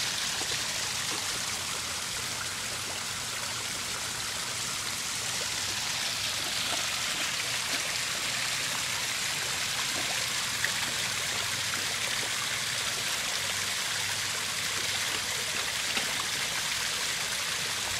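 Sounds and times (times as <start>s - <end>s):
waterfall splashing into pond: 0.0s - 17.9s.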